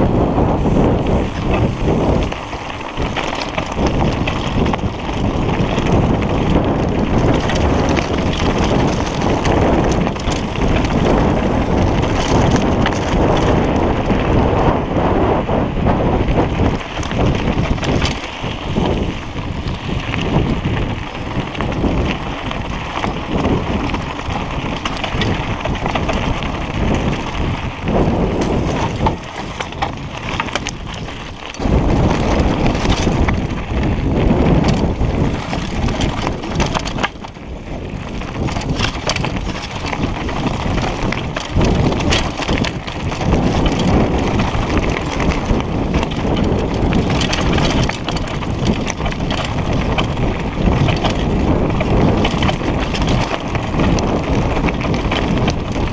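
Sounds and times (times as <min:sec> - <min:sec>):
bike rattling on loose stones: 0:00.0 - 0:55.9
wind buffeting microphone: 0:00.0 - 0:55.9.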